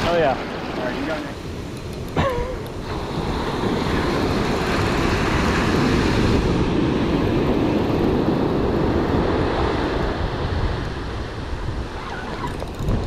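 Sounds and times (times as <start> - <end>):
surf washing up a beach: 0.0 - 13.0
wind rumbling on microphone: 0.0 - 13.0.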